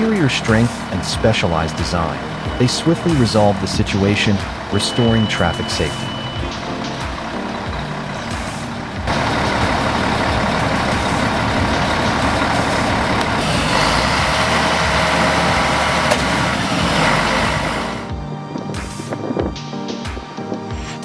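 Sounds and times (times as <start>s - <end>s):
heavy truck engine running: 0.0s - 18.2s.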